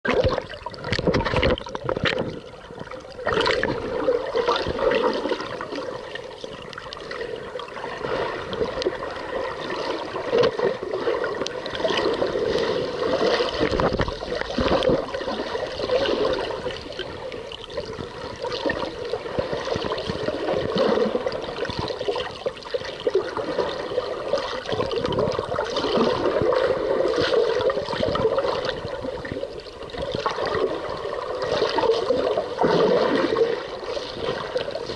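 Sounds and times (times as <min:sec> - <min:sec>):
water swirling underwater: 0:00.0 - 0:34.9.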